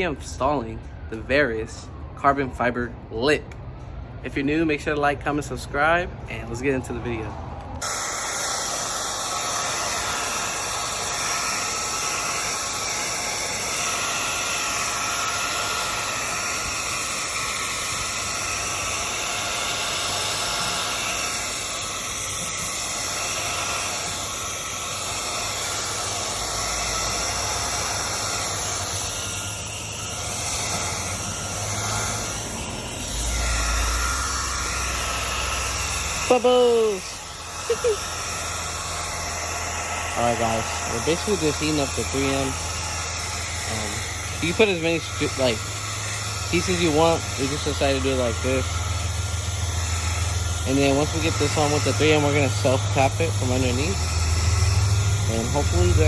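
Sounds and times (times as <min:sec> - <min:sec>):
heat gun blowing air: 0:07.6 - 0:56.0.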